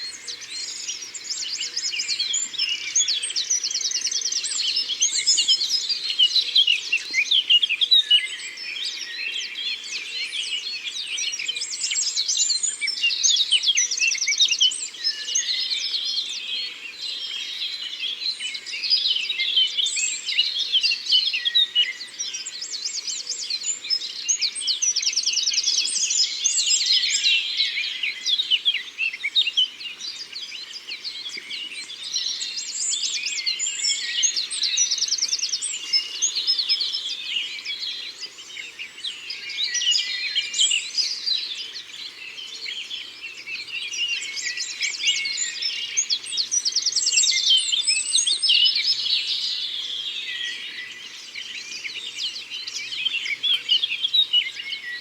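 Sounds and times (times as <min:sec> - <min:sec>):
chorus of songbirds singing: 0:00.0 - 0:55.0.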